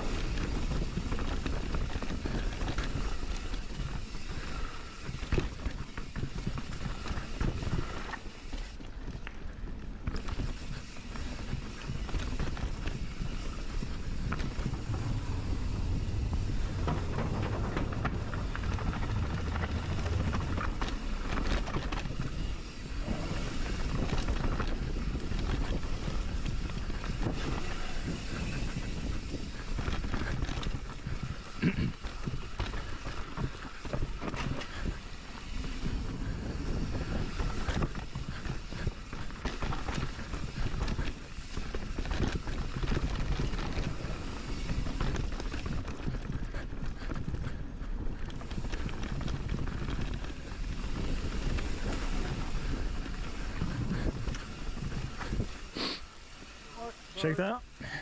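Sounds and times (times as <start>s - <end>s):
bike tyres rolling and rattling: 0.0s - 58.0s
wind buffeting microphone: 9.1s - 57.1s.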